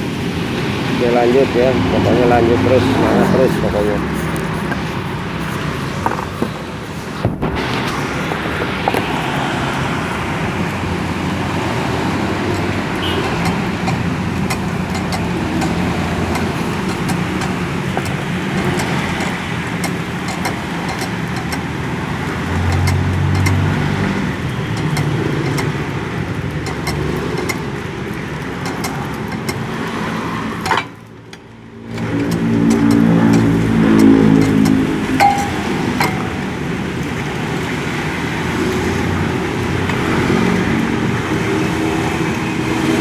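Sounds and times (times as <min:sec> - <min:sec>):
road traffic: 0:00.0 - 0:43.0.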